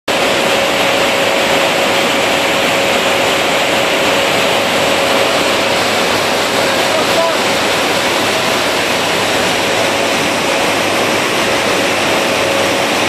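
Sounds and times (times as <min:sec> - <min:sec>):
aircraft engine and airflow noise: 0:00.1 - 0:13.0.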